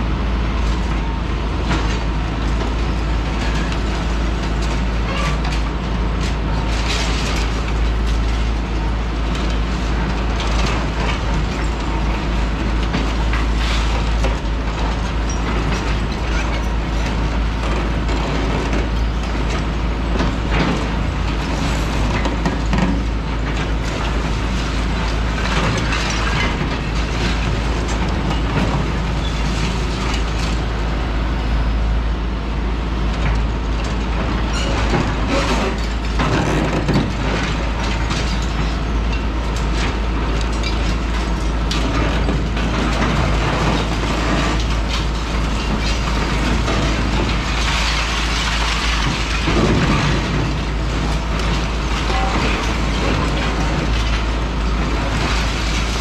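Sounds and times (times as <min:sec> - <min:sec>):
excavator diesel engine running: 0:00.0 - 0:56.0
rubble cracking and clattering: 0:01.6 - 0:30.7, 0:33.2 - 0:56.0.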